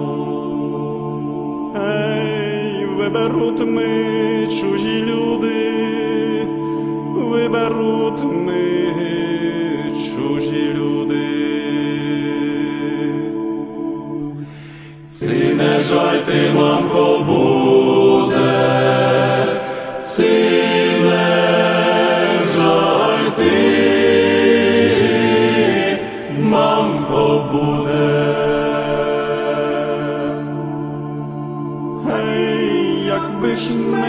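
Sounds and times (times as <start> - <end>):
voices chanting long notes: 0.0 - 34.0.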